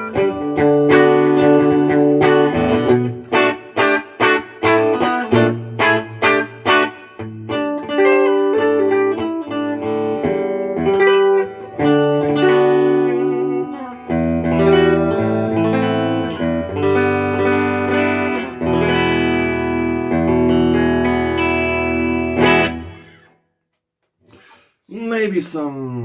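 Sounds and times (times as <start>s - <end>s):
electric guitar chords and notes: 0.0s - 23.4s.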